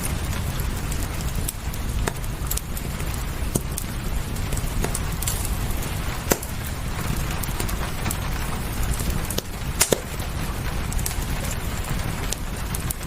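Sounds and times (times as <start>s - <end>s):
fireplace crackling and popping: 0.0s - 13.0s
rain: 0.0s - 13.0s.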